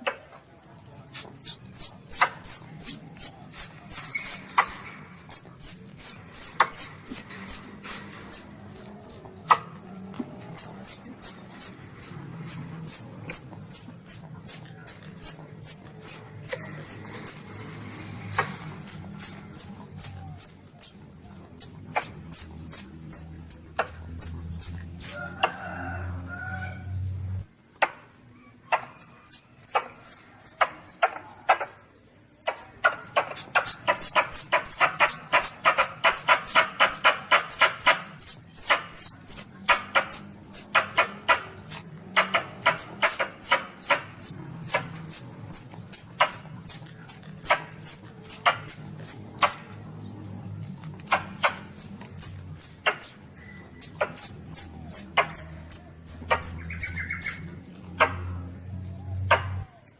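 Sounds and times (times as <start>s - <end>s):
civet squeaking: 1.1s - 25.6s, 28.7s - 49.9s, 50.6s - 57.7s.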